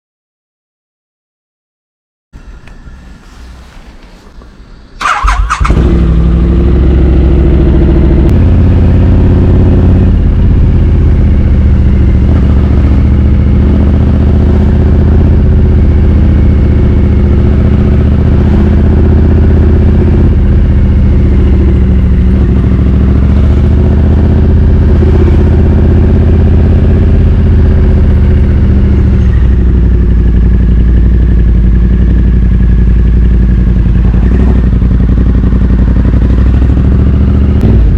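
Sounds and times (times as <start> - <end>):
motorcycle engine idling: 5.0 - 37.9.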